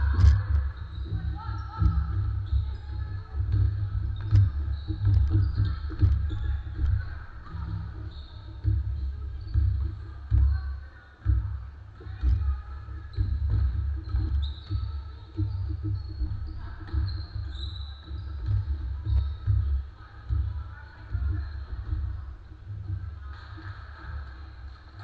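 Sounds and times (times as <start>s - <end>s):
basketball bouncing: 0.0s - 22.2s
sneakers squeaking: 0.0s - 25.0s.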